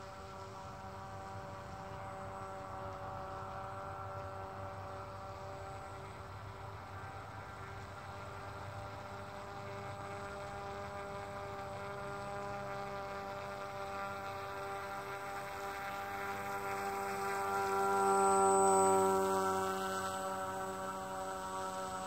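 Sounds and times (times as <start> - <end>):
model boat propeller buzzing: 0.0 - 22.0.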